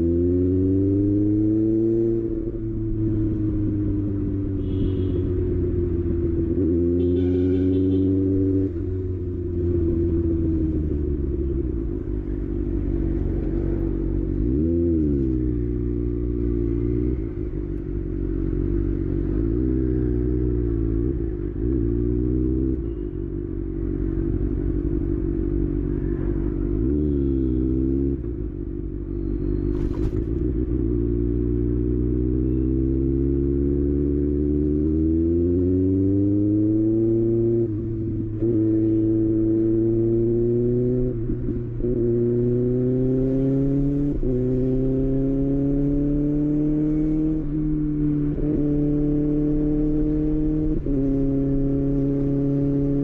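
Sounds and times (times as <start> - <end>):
motorcycle engine with throttle blips: 0.0 - 53.0.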